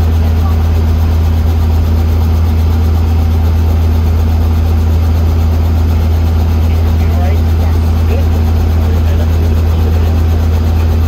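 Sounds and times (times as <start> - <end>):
helicopter engine and rotors: 0.0 - 11.0.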